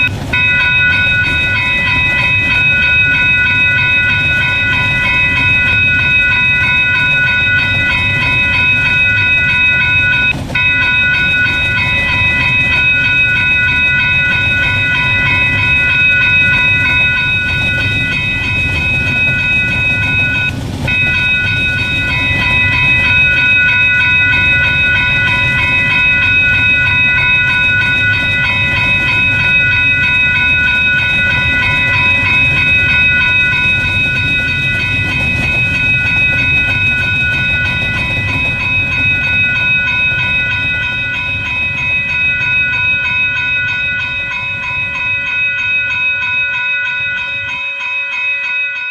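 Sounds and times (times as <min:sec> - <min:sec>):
high-pitched ringing tone: 0:00.0 - 0:48.9
train cars rumbling: 0:00.0 - 0:48.9.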